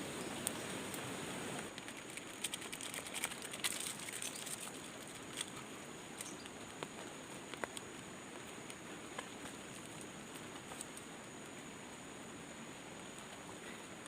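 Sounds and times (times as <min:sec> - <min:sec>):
steady high hiss: 0:00.0 - 0:14.0
light ticks and patter: 0:00.1 - 0:14.0.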